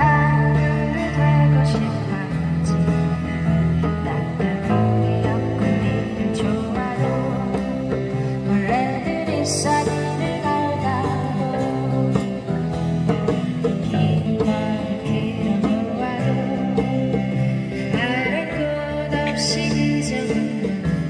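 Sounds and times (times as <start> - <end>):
acoustic band playing: 0.0 - 21.0.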